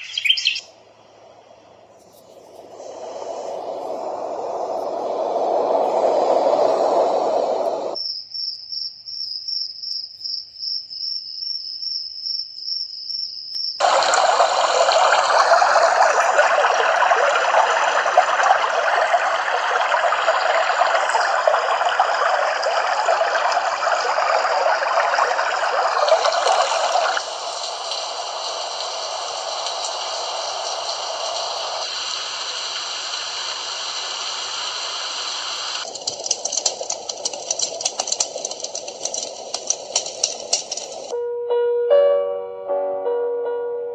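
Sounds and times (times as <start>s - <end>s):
rushing water-like white noise: 0.0s - 8.0s, 13.8s - 41.1s
cricket-chirp pulsing tone: 0.0s - 35.9s.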